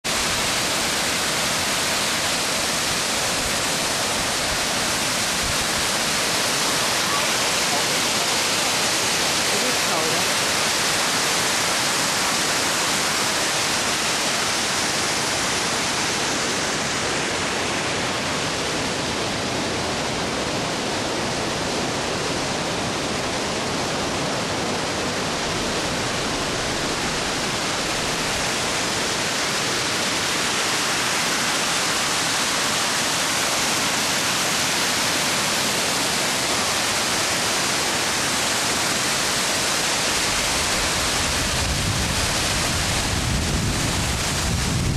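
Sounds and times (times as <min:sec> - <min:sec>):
waterfall rushing over rock: 0:00.0 - 0:44.9.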